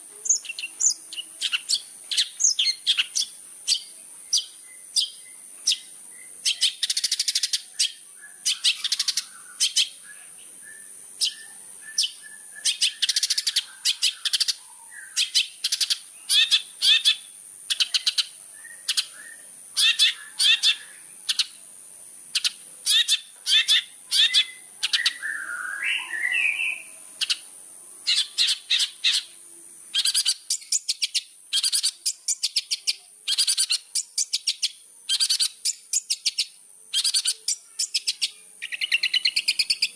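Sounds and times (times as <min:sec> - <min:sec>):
bird chattering song: 0:00.0 - 0:21.7, 0:22.3 - 0:39.9
steady high hiss: 0:00.0 - 0:39.9
soft whistled bird notes: 0:00.2 - 0:21.6, 0:22.4 - 0:27.5, 0:28.1 - 0:39.9.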